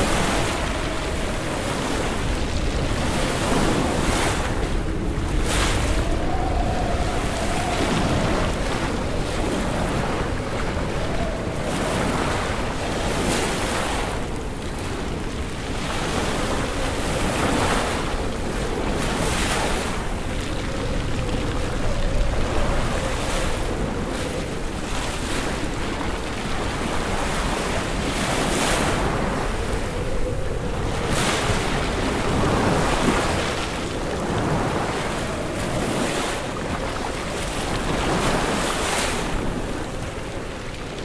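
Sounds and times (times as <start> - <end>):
lake waves surging and splashing: 0.0 - 41.0
wind on microphone: 0.0 - 41.0.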